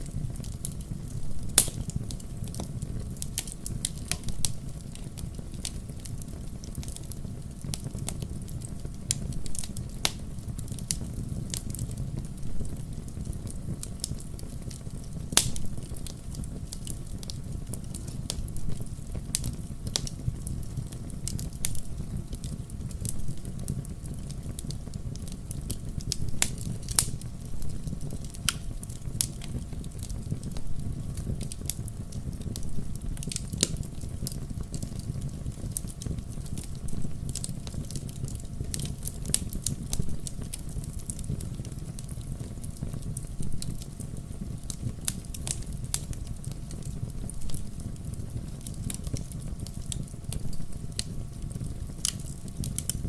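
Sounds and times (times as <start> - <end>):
campfire crackling and popping: 0.0 - 53.0
low rumble of burning fire: 0.0 - 53.0.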